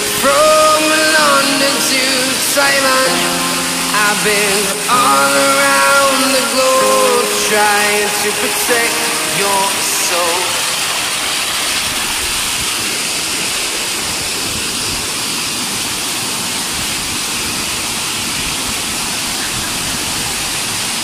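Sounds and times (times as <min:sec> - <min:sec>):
water rushing over boulders: 0:00.0 - 0:21.0.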